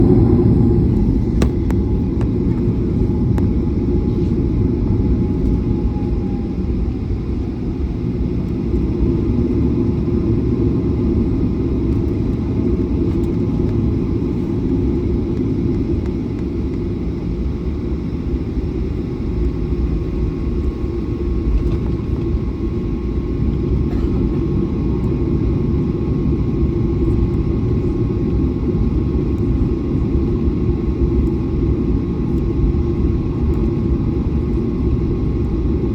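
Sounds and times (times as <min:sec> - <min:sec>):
jet engines rumbling: 0:00.0 - 0:35.9.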